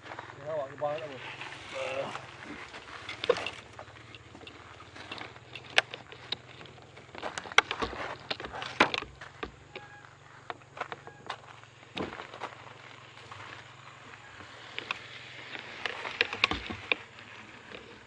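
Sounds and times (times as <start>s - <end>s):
bike clicks and rattles: 0.1s - 18.0s.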